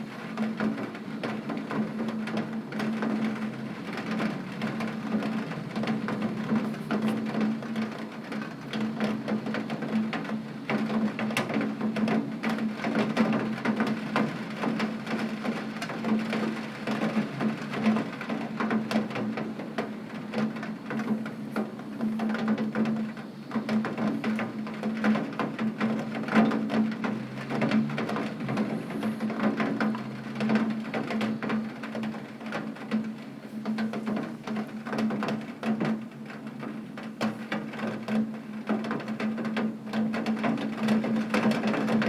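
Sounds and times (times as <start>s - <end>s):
heavy rain on window glass: 0.0s - 42.0s.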